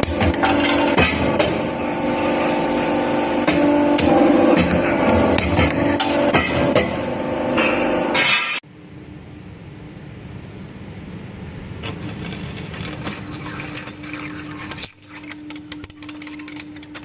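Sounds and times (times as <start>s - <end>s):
workshop machine hum: 0.0s - 17.0s.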